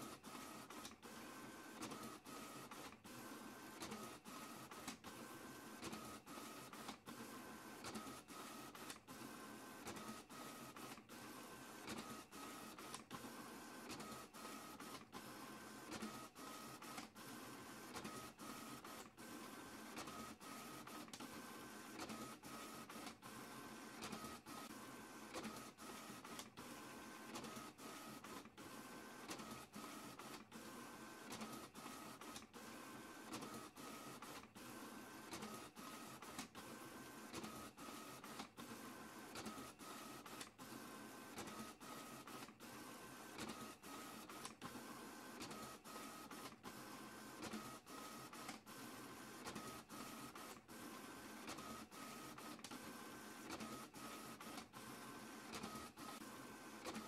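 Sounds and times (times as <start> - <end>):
printer whirring: 0.0 - 57.0.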